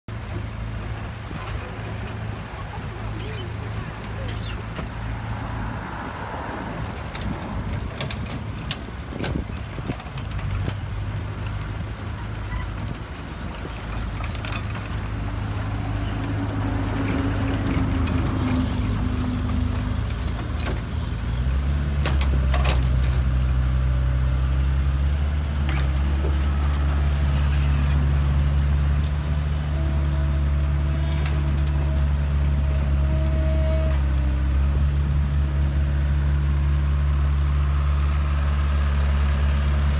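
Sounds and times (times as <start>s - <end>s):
excavator diesel engine: 0.1s - 39.9s.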